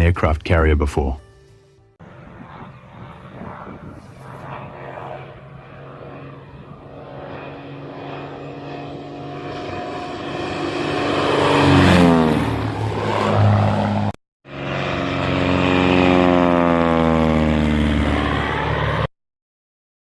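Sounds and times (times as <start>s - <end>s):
propeller aircraft engine droning: 1.4s - 19.1s.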